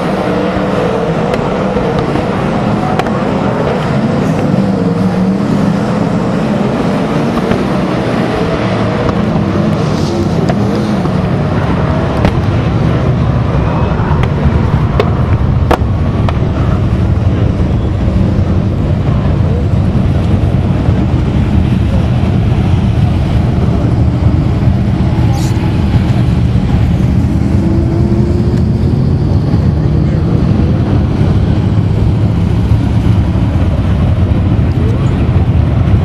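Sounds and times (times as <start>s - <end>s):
race car engines roaring: 0.0s - 36.0s.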